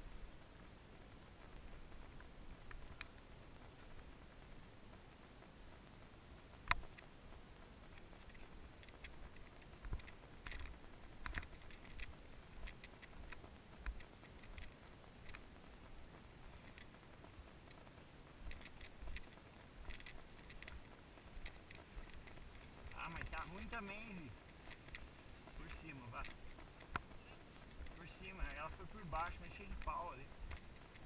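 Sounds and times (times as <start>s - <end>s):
faint low rumble: 0.0s - 31.0s.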